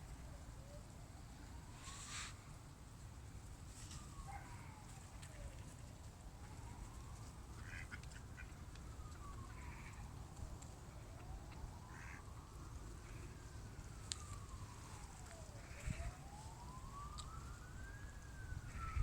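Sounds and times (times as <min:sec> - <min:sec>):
faint siren wailing: 0:00.0 - 0:19.0
low wind rumble: 0:00.0 - 0:19.0.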